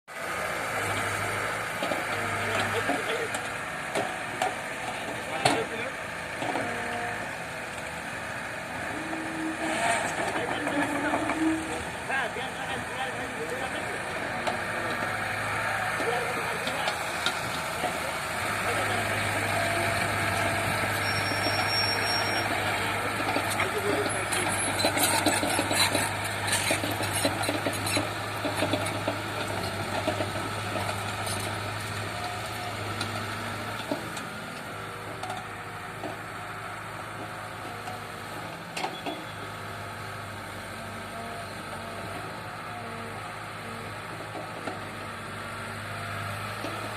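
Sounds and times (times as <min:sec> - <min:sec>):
diesel machinery engine din: 0:00.1 - 0:46.9.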